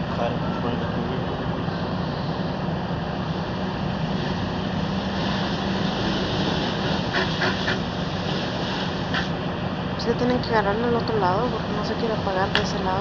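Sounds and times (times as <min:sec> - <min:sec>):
continuous rushing noise: 0:00.0 - 0:13.0
fire engine humming: 0:00.0 - 0:13.0.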